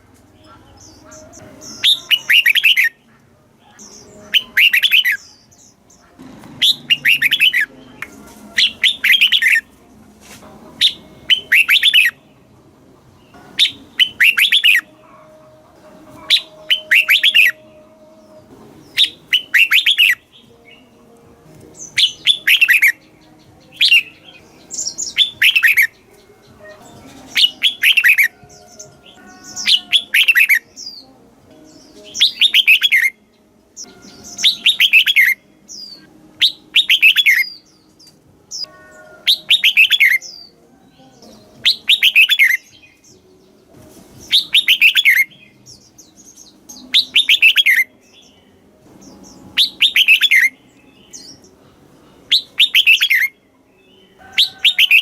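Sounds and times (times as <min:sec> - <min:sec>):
bird singing warbled phrases: 0:00.0 - 0:09.8, 0:10.8 - 0:55.0.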